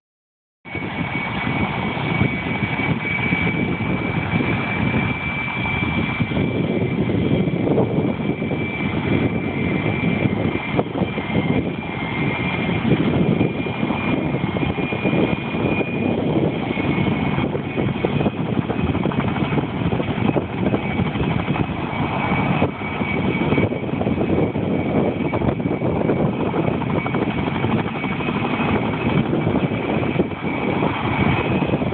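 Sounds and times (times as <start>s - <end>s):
helicopter rotor and engine: 0.7s - 31.9s
high turbine whine: 0.7s - 31.9s.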